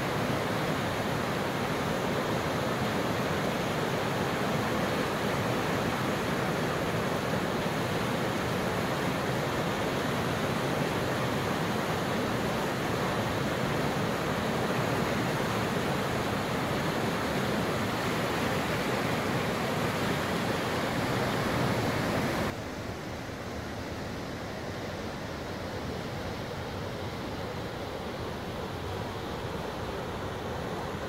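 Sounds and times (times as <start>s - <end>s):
water rushing through spillway: 0.0s - 31.0s.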